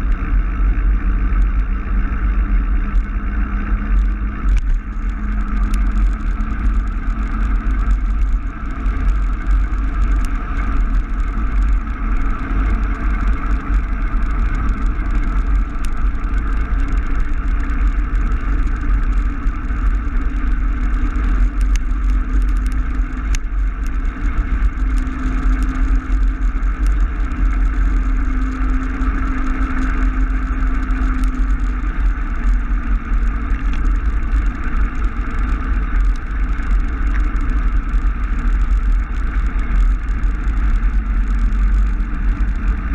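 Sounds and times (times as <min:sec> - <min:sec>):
bicycle tyre noise: 0:00.0 - 0:42.9
wind rush on microphone: 0:00.0 - 0:42.9.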